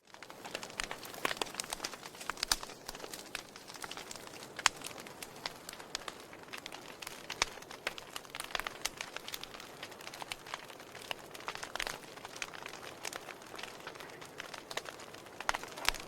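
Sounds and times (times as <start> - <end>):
logs crackling and popping: 0.0 - 16.0
fire hissing: 0.2 - 16.0.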